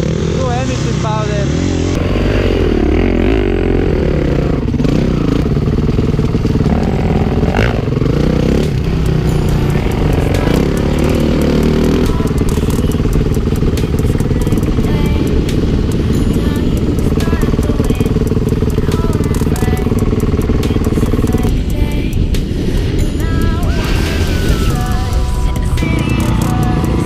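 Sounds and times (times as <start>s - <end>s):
dirt bike engine revving: 0.0s - 27.0s
rapid clicking and clattering: 4.8s - 27.0s.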